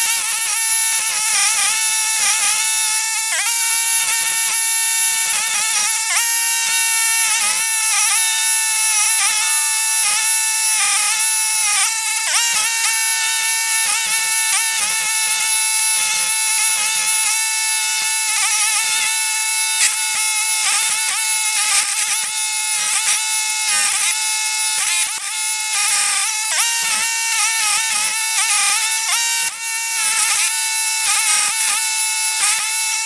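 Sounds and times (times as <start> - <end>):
stump grinder grinding wood: 0.0 - 33.0.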